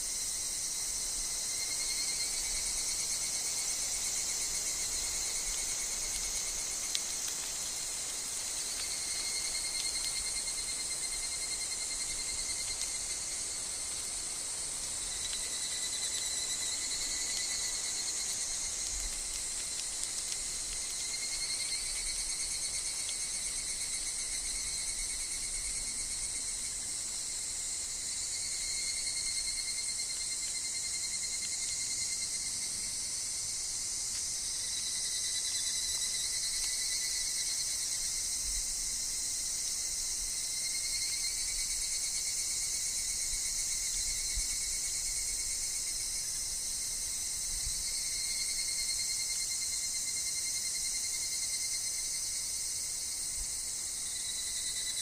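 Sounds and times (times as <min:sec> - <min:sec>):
insects calling: 0:00.0 - 0:55.0.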